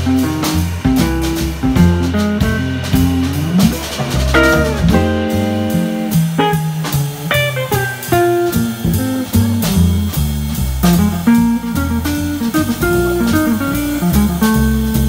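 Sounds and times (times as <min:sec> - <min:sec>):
drum kit: 0:00.0 - 0:15.0
electric guitar: 0:00.0 - 0:15.0
plucked upright bass: 0:00.0 - 0:15.0.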